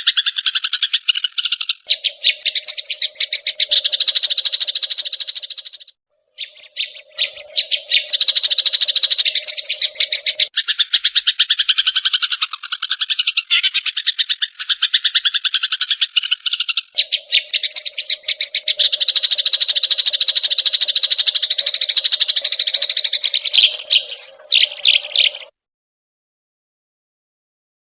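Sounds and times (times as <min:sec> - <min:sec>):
sparrows chattering: 0:00.0 - 0:25.5.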